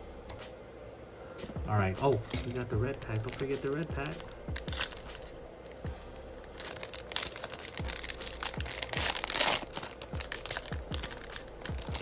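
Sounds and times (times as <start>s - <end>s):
foil wrapper crinkling and ripping: 2.1s - 12.0s.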